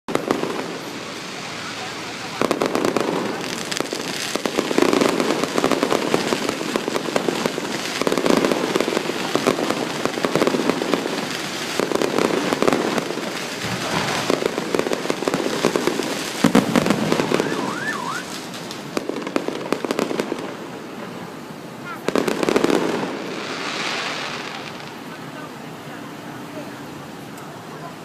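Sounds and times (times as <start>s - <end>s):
fireworks crackling and popping: 0.1s - 28.0s.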